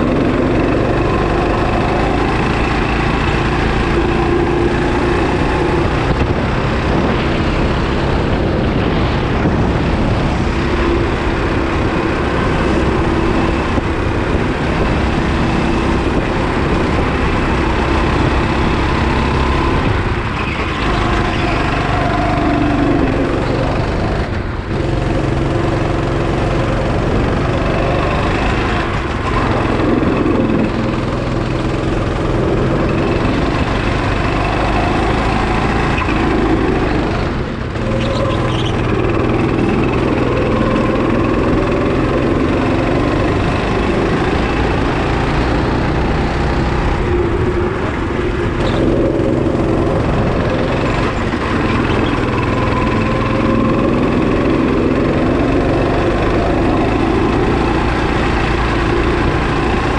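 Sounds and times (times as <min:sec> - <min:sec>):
go-kart engine at high revs: 0:00.0 - 0:59.9.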